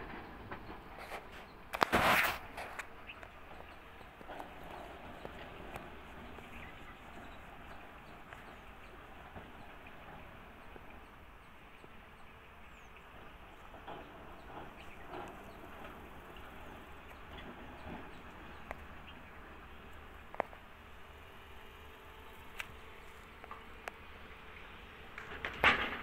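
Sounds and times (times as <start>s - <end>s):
birds chirping: 0.0s - 26.0s
steady low rumble: 2.9s - 25.6s.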